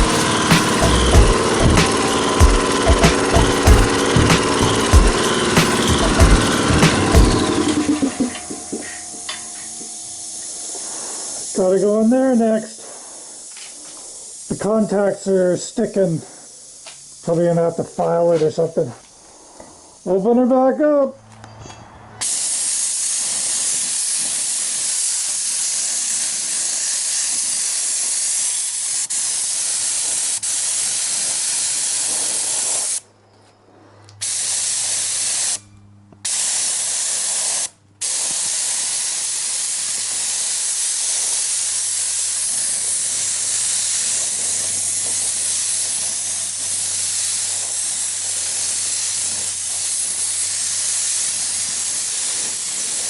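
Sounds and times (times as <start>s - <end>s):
pneumatic tool air hissing: 0.0s - 20.2s, 22.2s - 33.0s, 34.2s - 35.6s, 36.2s - 53.0s.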